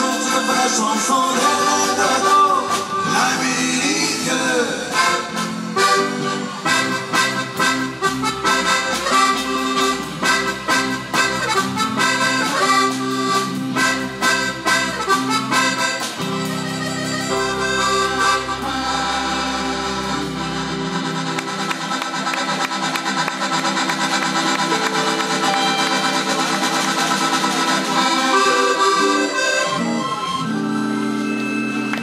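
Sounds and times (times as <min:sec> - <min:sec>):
live band with accordion: 0:00.0 - 0:32.0
low bass: 0:00.0 - 0:32.0.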